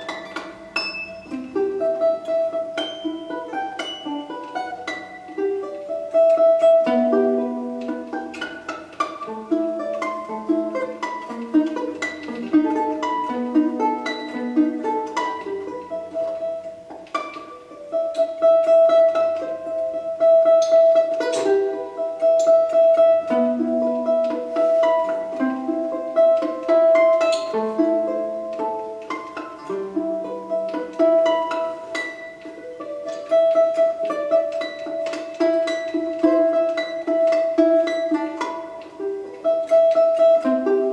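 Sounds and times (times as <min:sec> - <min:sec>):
domra played with pick: 0:00.0 - 0:40.9.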